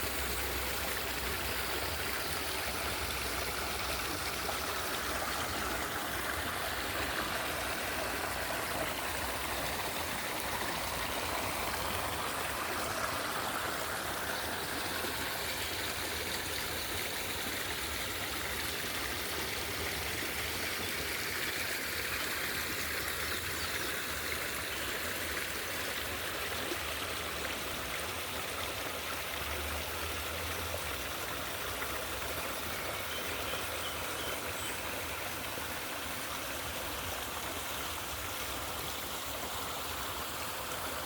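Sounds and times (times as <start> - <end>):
water rushing: 0.0 - 41.0.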